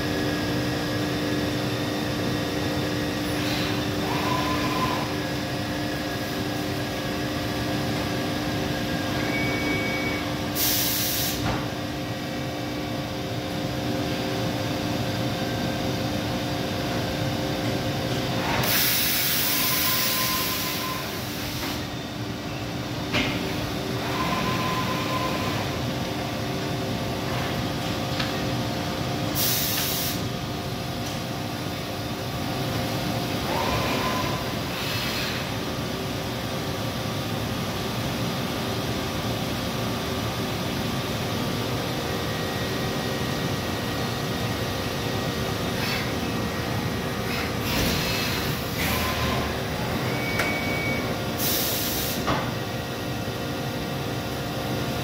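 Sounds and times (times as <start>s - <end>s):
machine hum of pumps and fans: 0.0s - 55.0s.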